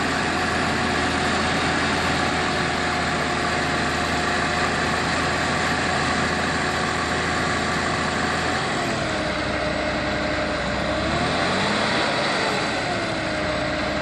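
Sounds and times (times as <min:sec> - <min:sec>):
heavy vehicle engine idling: 0:00.0 - 0:14.0.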